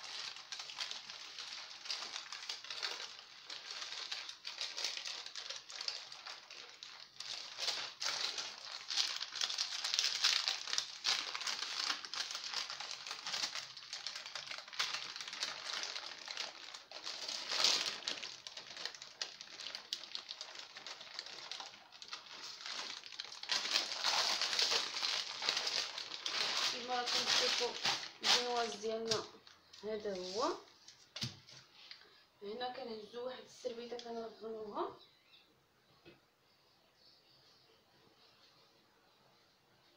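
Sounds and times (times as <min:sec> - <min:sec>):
baking parchment crinkling: 0:00.0 - 0:32.0.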